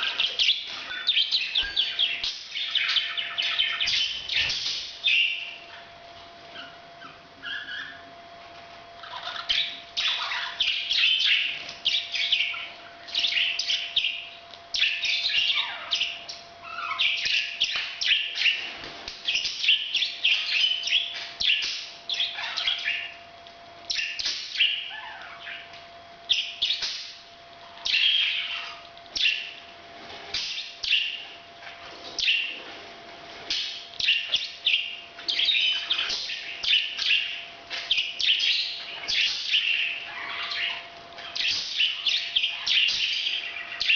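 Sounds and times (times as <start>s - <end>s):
parrots chirping: 0.0s - 5.9s, 6.5s - 8.1s, 9.0s - 29.7s, 30.3s - 32.6s, 33.4s - 43.9s.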